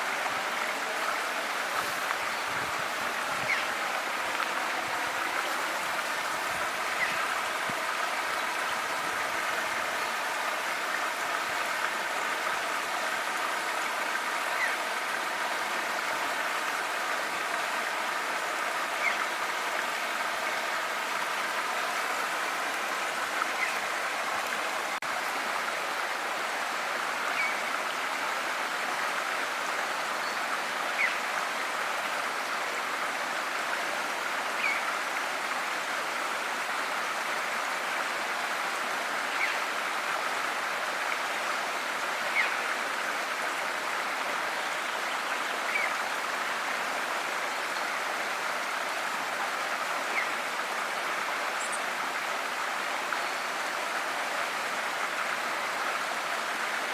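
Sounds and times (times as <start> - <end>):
river water flowing: 0.0 - 56.9.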